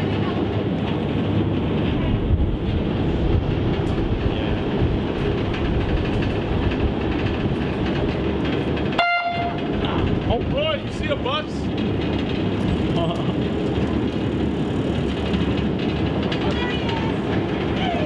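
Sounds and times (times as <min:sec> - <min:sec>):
boat engine rumble: 0:00.0 - 0:18.0
wind on microphone: 0:00.0 - 0:18.0.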